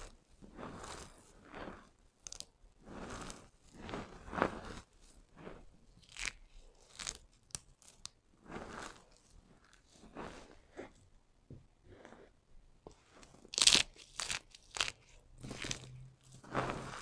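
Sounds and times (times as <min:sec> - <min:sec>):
dry soap crunching: 0:00.0 - 0:10.7, 0:13.2 - 0:17.0.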